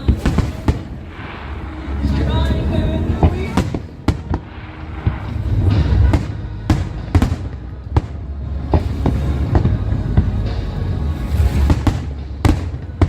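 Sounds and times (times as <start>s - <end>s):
fireworks bursting: 0.0s - 13.0s
low rumble: 0.0s - 13.0s.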